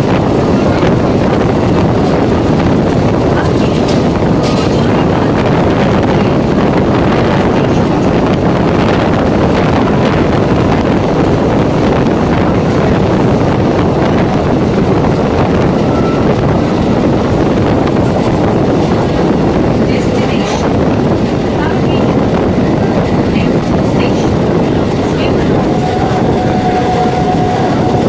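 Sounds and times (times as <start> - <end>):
train rumbling on track: 0.0 - 28.0
wind buffeting microphone: 0.0 - 28.0.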